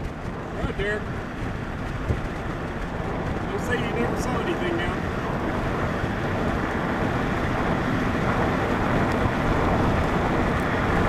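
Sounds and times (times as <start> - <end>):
vehicle running: 0.0 - 11.0
wind rushing: 0.0 - 11.0.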